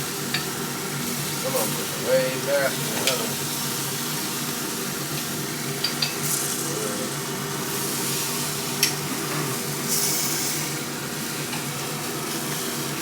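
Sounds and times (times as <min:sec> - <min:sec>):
chicken wings sizzling: 0:00.0 - 0:13.0.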